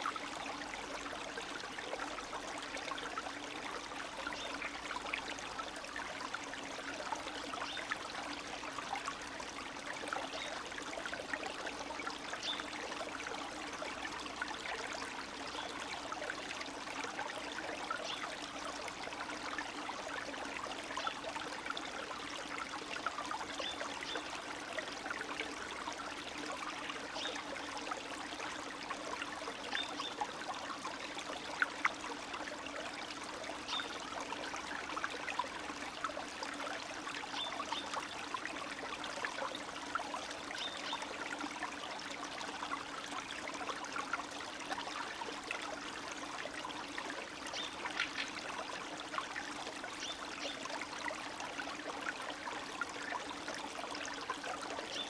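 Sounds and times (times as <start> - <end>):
stream trickling and babbling: 0.0 - 55.0.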